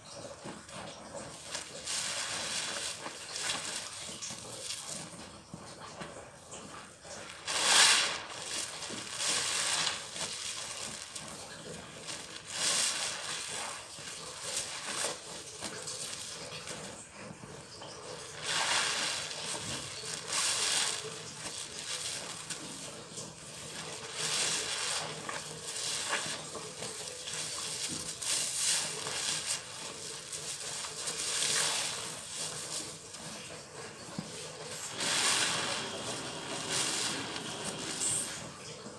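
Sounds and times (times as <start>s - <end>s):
sponges squelching in suds: 0.0s - 38.9s.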